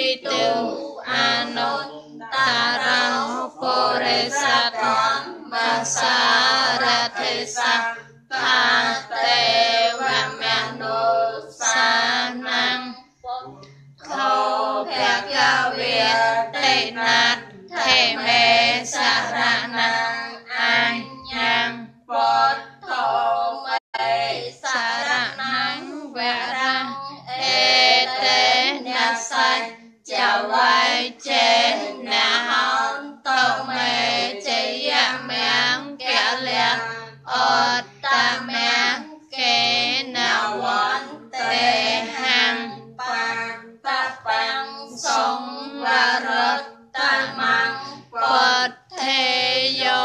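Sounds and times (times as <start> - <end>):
voices chanting a melody: 0.0 - 50.0.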